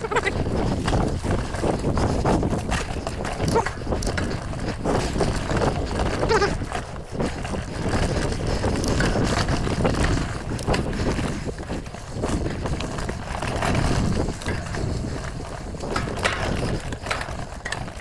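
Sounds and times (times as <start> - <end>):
bike rattling: 0.0 - 18.0
tyres crunching over rock: 0.0 - 18.0
wind rumble on microphone: 0.0 - 18.0.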